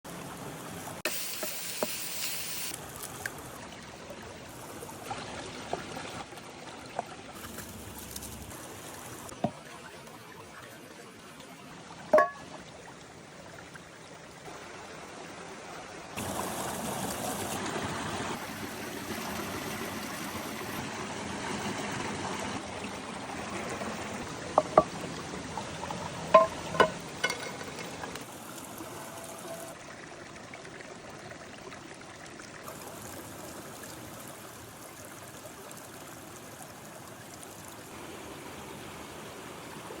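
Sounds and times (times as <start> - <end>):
water running in a stream: 0.1 - 40.0.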